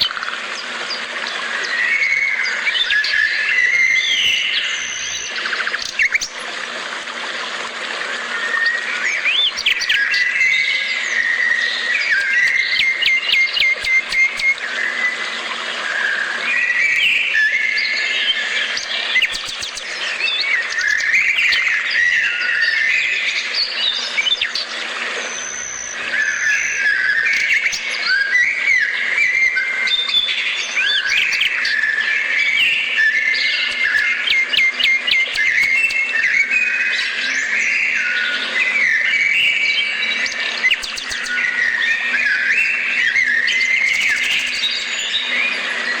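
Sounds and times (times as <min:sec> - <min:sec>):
songbirds singing: 0:00.0 - 0:46.0.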